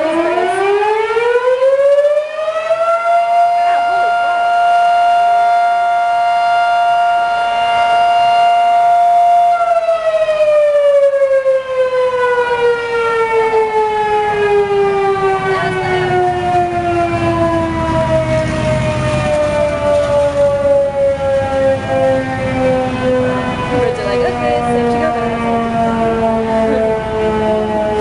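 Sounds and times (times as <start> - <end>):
siren wailing and winding down: 0.0 - 28.0.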